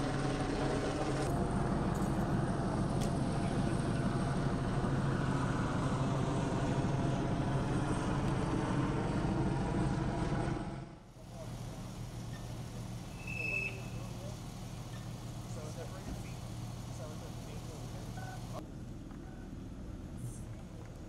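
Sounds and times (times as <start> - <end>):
helicopter hovering drone: 0.0 - 18.8.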